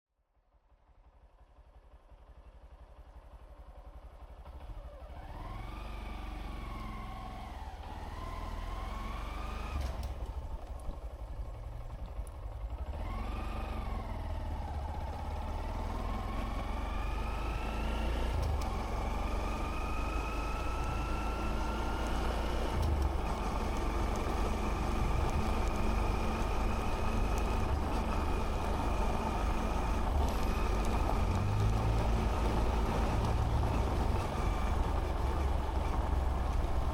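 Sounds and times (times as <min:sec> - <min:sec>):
motorcycle engine accelerating: 0:01.4 - 0:36.9.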